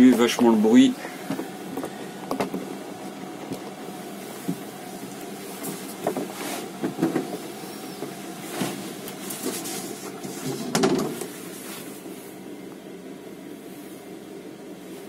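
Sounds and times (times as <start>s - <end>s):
air heater humming: 0.0s - 15.0s.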